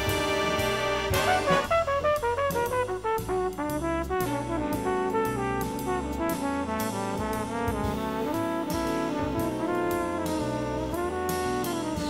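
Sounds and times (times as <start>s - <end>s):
bass: 0.0s - 12.0s
big band brass section: 0.0s - 12.0s
drums with cymbal strokes: 0.0s - 12.0s.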